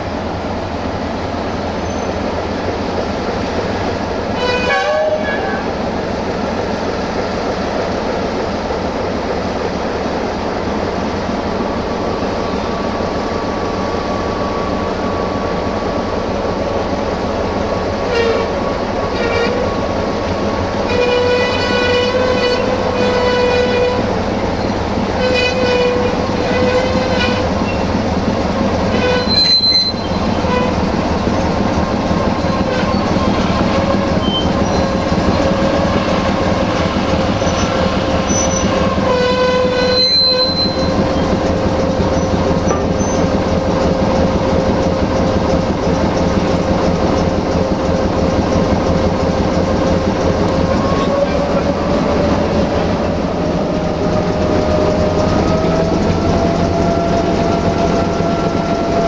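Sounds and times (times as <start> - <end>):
diesel locomotive running: 0.0 - 59.0.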